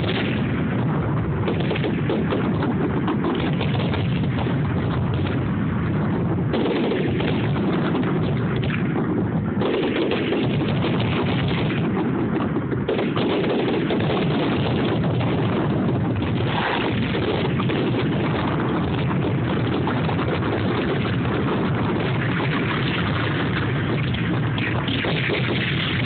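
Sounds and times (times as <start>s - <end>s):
fireworks barrage: 0.0s - 26.0s.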